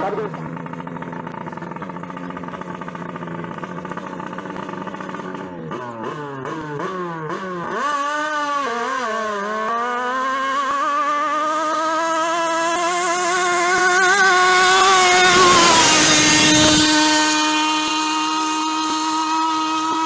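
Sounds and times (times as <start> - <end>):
boat engine revving: 0.0 - 20.0.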